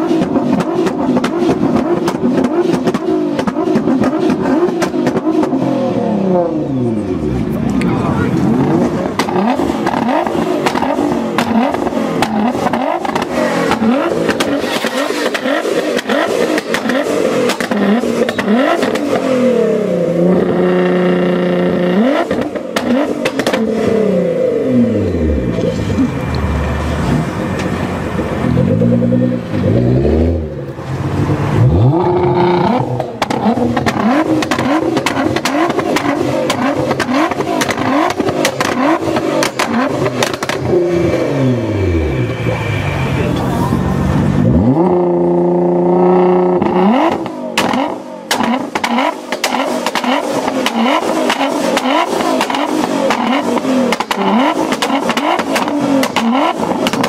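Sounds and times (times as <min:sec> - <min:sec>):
car engine revving: 0:00.0 - 0:57.0
exhaust crackling: 0:00.0 - 0:57.0.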